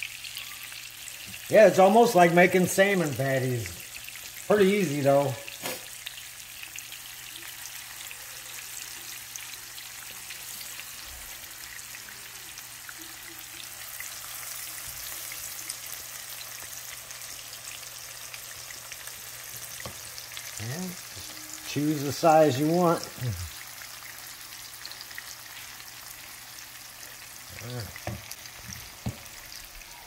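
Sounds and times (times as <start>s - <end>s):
patties sizzling in a skillet: 0.0s - 30.0s.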